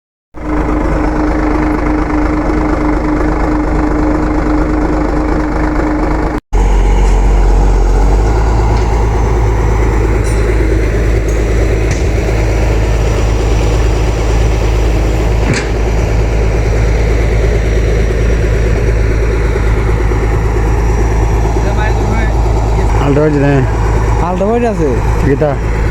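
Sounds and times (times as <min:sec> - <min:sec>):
diesel engine running: 0:00.4 - 0:25.9.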